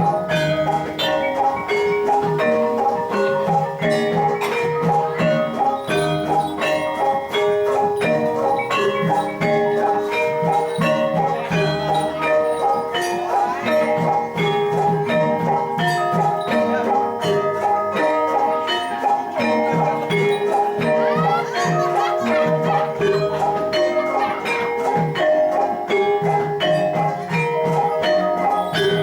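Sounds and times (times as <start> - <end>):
gamelan metallophones and gong-chimes: 0.0 - 29.0.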